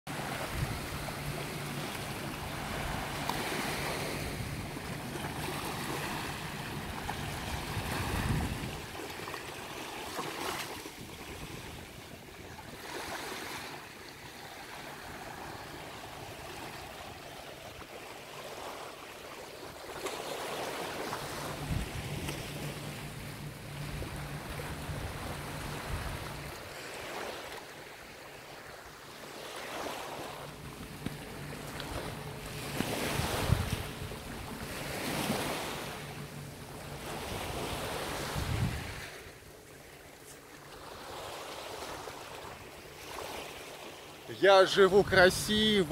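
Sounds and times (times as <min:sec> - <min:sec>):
small waves lapping on shore: 0:00.1 - 0:45.9.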